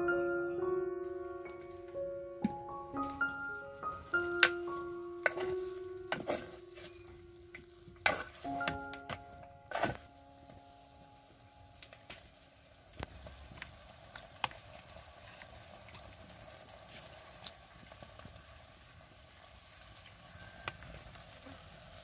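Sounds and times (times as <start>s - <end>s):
food sizzling in clay pot: 1.1s - 22.0s.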